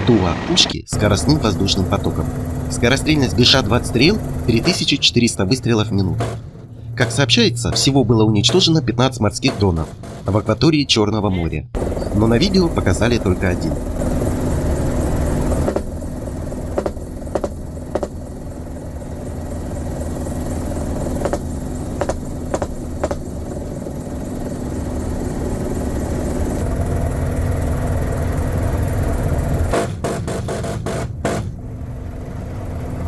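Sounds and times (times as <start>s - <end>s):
helicopter running: 0.1s - 33.0s.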